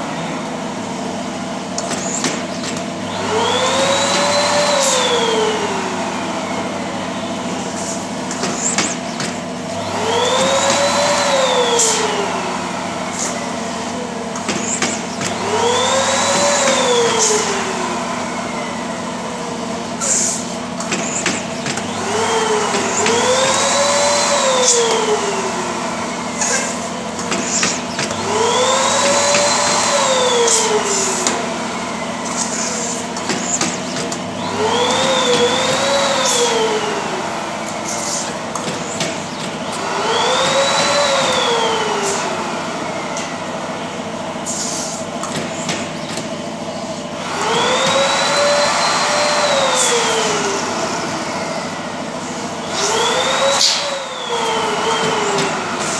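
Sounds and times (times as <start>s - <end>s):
machine hum: 0.0s - 55.9s.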